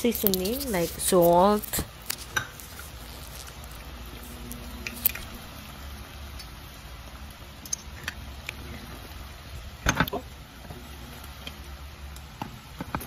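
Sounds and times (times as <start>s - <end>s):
pot simmering with steady hiss: 0.0s - 13.0s.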